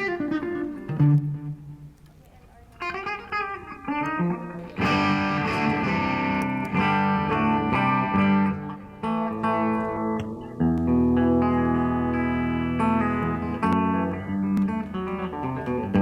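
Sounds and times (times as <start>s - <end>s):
guitar playing: 0.0s - 16.0s.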